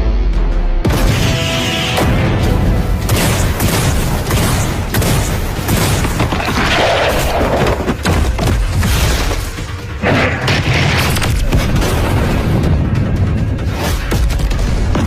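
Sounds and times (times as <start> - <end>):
music: 0.0 - 15.0
booming blasts and impacts: 0.8 - 15.0.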